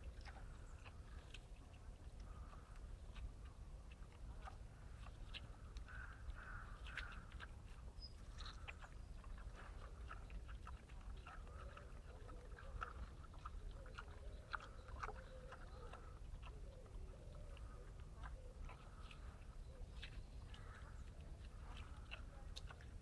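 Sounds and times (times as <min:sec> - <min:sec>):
boar chewing and crunching food: 0:00.0 - 0:23.0.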